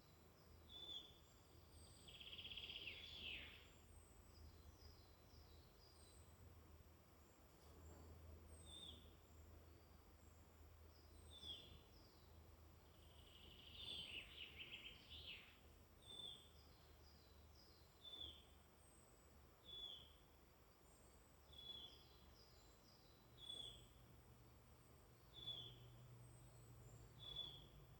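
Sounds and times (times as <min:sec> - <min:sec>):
birds singing in woodland: 0:00.0 - 0:27.9.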